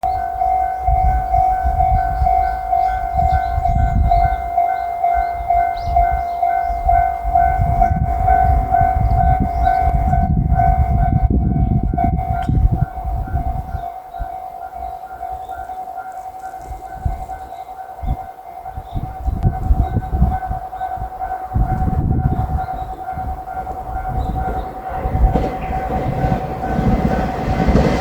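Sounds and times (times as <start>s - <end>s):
electric train rumbling: 0.0s - 28.0s
level-crossing warning bell: 0.0s - 28.0s.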